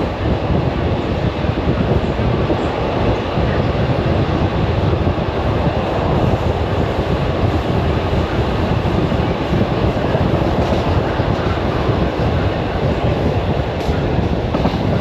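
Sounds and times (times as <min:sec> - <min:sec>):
electric train rumbling on track: 0:00.0 - 0:15.0.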